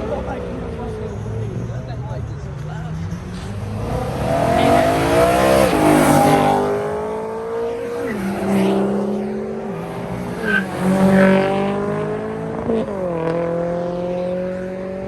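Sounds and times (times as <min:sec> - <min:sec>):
car engine accelerating: 0:02.6 - 0:15.0.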